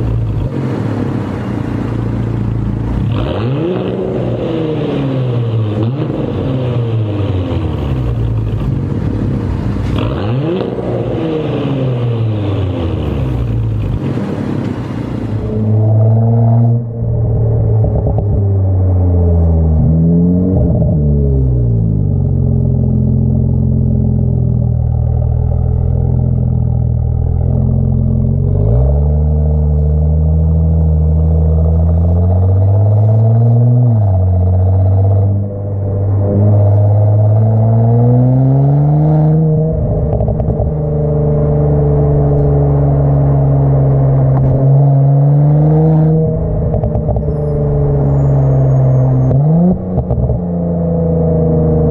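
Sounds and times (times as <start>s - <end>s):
car exhaust note: 0.0s - 51.9s.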